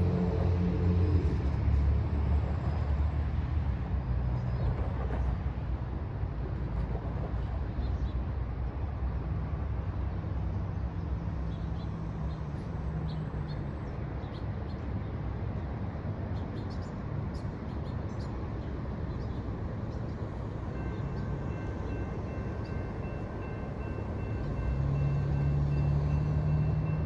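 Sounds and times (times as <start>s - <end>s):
distant traffic hum: 0.0s - 27.0s.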